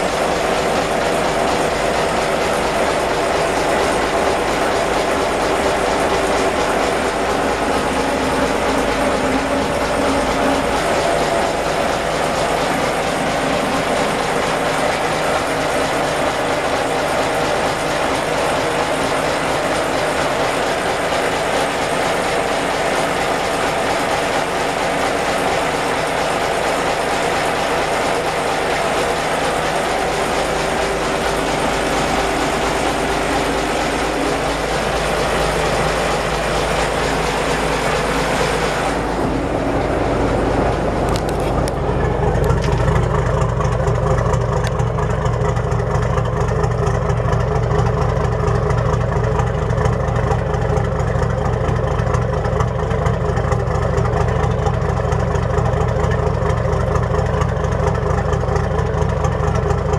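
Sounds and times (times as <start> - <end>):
marine diesel engine idling: 0.0 - 59.9.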